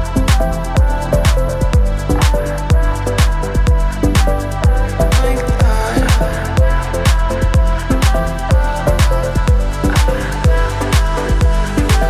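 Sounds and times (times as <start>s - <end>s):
steady deep beat: 0.0s - 12.0s.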